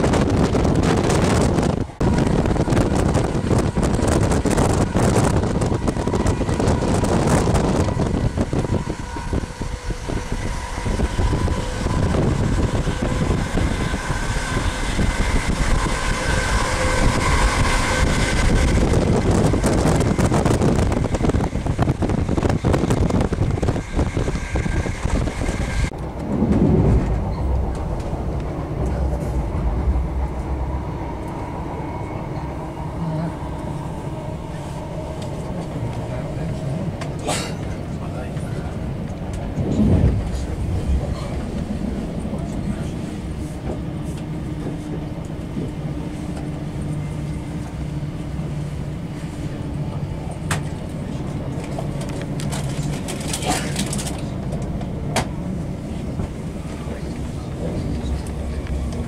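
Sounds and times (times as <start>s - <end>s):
train wheel-on-rail noise: 0.0s - 59.0s.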